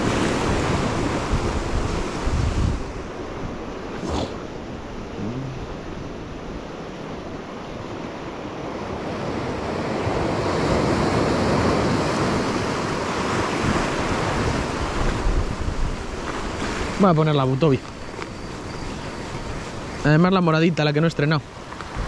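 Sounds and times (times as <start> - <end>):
surf breaking over rocks: 0.0 - 4.9, 8.8 - 22.0
wind buffeting microphone: 0.0 - 8.1, 8.7 - 20.2, 21.6 - 22.0.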